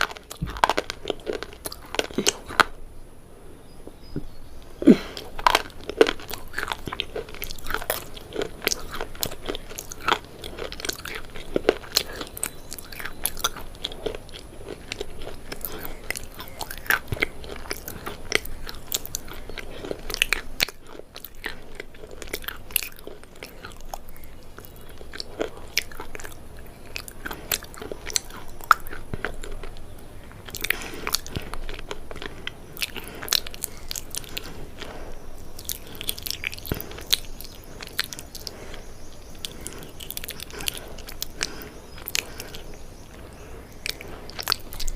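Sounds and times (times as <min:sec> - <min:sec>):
crunchy food chewing: 0:00.0 - 0:02.9, 0:03.6 - 0:44.9.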